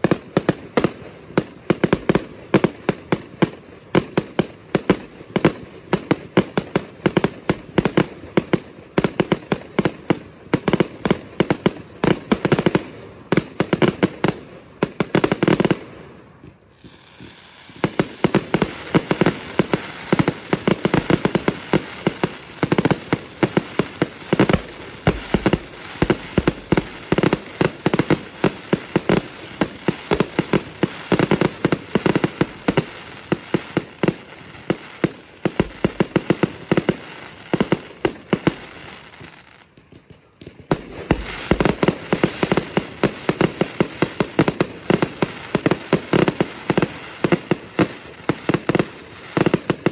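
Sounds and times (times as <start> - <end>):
fireworks launching and bursting: 0.0 - 49.9.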